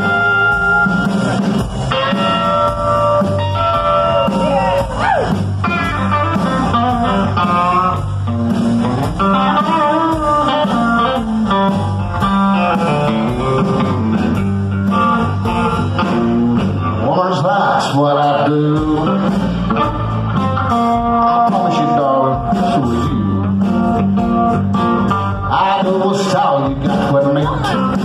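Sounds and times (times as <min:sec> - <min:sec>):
bass guitar: 0:00.0 - 0:28.0
drums: 0:00.0 - 0:28.0
electric guitar lead: 0:00.0 - 0:28.0.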